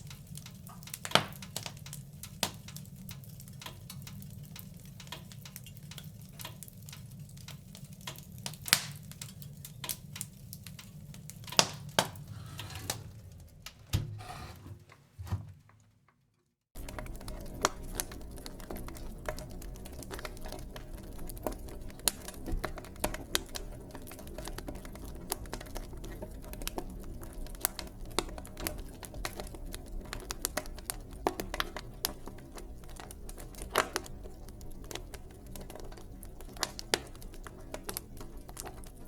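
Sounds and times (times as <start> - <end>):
low rumble of flames: 0.0 - 14.4, 16.8 - 39.0
wood fire crackling: 0.0 - 14.6, 16.7 - 39.0.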